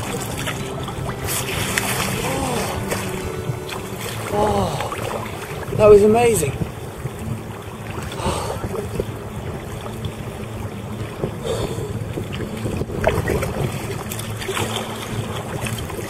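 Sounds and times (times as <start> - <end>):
short splashes: 0.0 - 10.4, 11.1 - 16.0
water lapping against hull: 0.0 - 16.0
wind buffeting microphone: 0.0 - 16.0.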